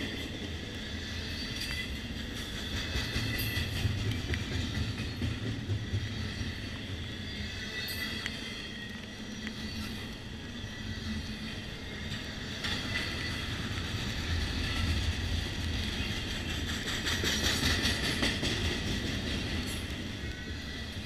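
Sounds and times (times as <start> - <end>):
train wheels rumbling on rail: 0.0 - 21.0
wheels clicking over rail joint: 0.0 - 21.0.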